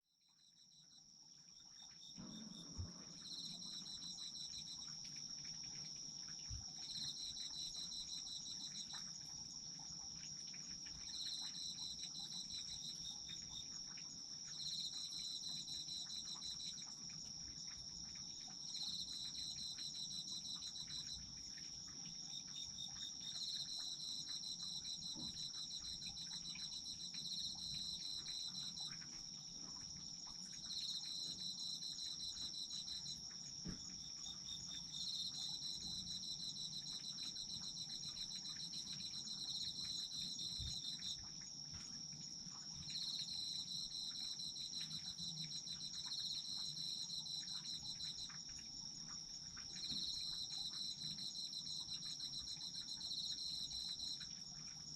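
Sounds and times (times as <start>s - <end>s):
insect chirping in pulsed bouts: 1.6s - 9.6s, 10.2s - 54.6s.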